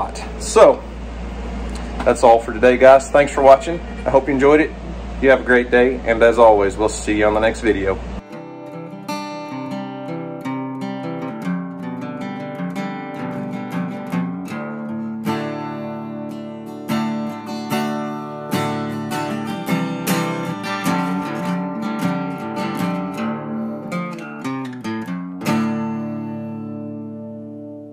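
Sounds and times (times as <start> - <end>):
acoustic guitar picking: 0.0 - 27.9.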